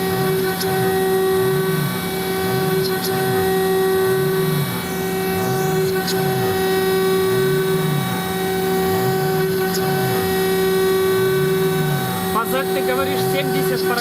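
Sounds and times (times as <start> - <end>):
low swooping machine tone: 0.0 - 14.0
router spindle high hum: 0.0 - 14.0.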